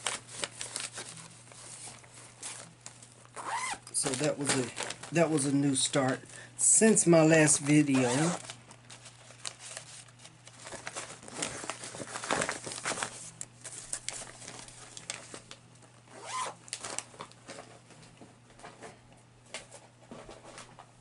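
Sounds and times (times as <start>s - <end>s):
plastic rustling and crinkling: 0.0s - 20.9s.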